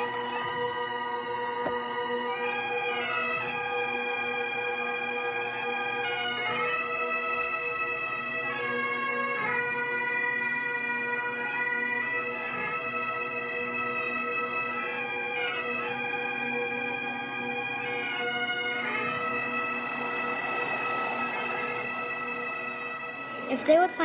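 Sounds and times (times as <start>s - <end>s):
bagpipes playing slow melody: 0.0s - 24.0s.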